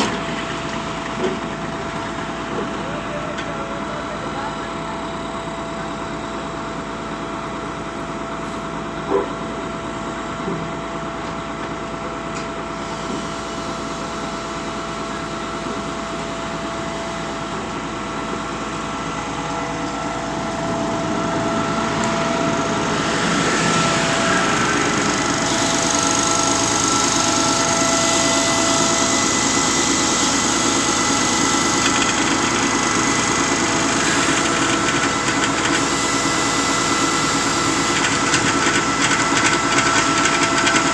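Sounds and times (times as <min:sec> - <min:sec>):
concrete pump engine and hydraulics: 0:00.0 - 0:40.9.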